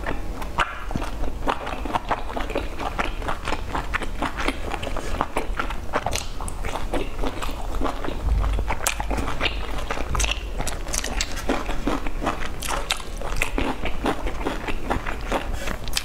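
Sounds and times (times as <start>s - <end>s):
steady low hum: 0.0s - 16.0s
wet chewing and mouth smacks: 0.0s - 16.0s.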